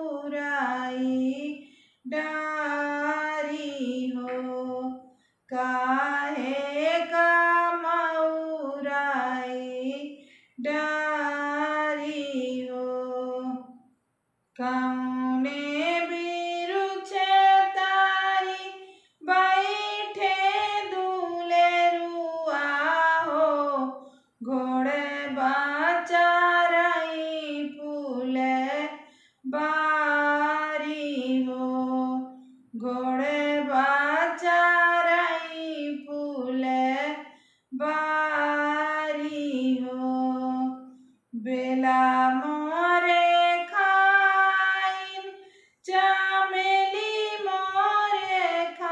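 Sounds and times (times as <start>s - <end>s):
woman singing unaccompanied: 0.0s - 13.7s, 14.6s - 48.9s.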